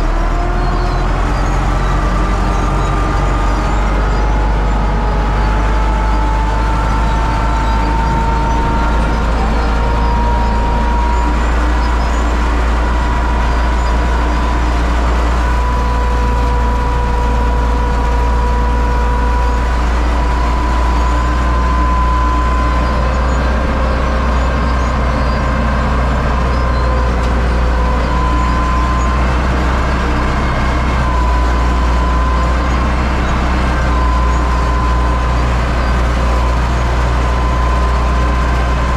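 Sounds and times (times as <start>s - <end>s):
diesel tractor engine rumbling: 0.0s - 38.9s
thin whine: 0.0s - 38.9s.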